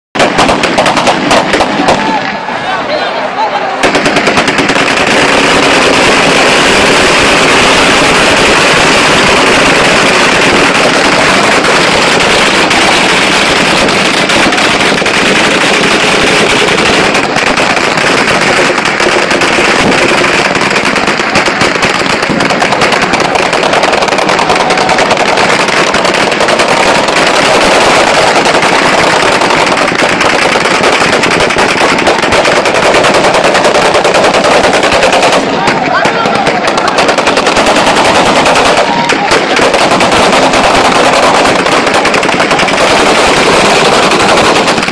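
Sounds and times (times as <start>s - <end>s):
rapid overlapping gunfire: 0.2s - 44.9s.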